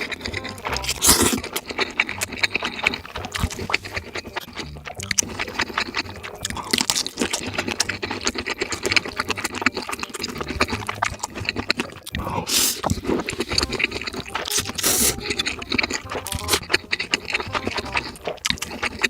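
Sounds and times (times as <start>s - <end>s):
person chewing and slurping noodles: 0.0s - 19.0s.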